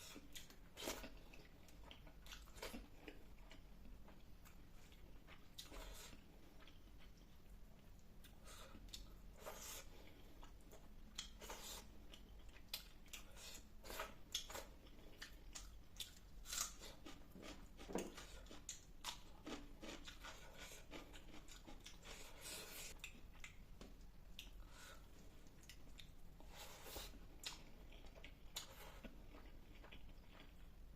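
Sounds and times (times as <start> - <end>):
person chewing food: 0.0 - 30.9.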